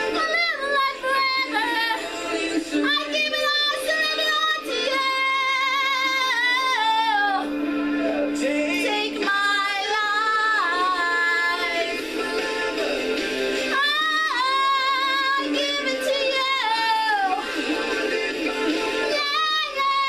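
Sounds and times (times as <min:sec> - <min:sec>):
woman singing: 0:00.0 - 0:07.5, 0:08.4 - 0:20.0.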